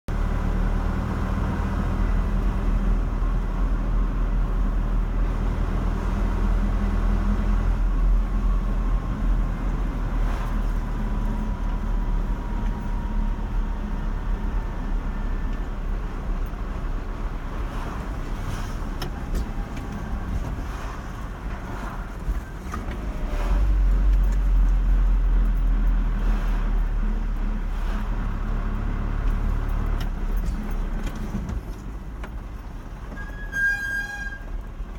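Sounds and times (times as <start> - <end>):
car engine and tyres rumbling: 0.1 - 34.9.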